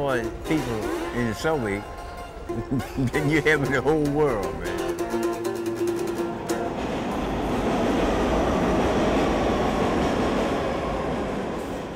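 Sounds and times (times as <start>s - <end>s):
subway train rumbling: 0.0s - 11.9s.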